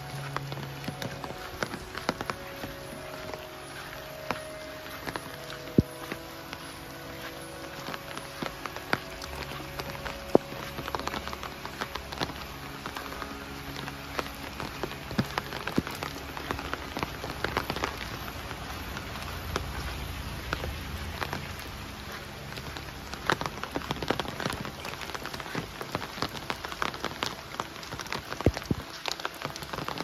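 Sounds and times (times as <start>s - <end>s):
rain falling: 0.0s - 30.0s
raindrops tapping: 0.0s - 30.0s.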